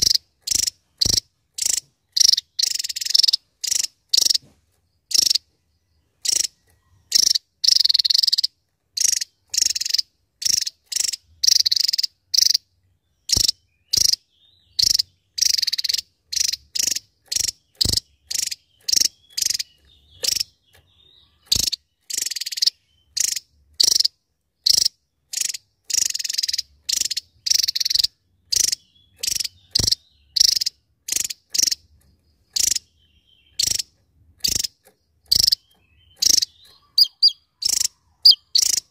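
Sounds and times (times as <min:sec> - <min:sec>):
bird singing rapid high bursts: 0:00.0 - 0:05.5, 0:06.1 - 0:38.9.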